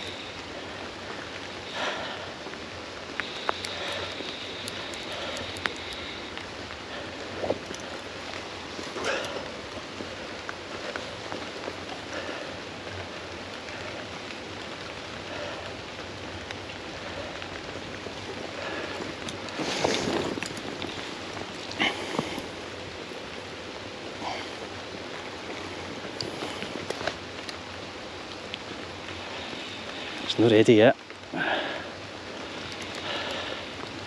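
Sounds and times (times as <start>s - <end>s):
rushing water: 0.0s - 34.0s.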